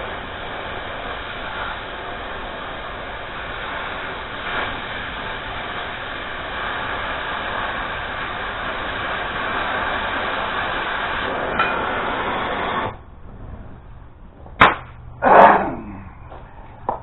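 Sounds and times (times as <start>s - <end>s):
cutting torch hissing: 0.0s - 14.1s.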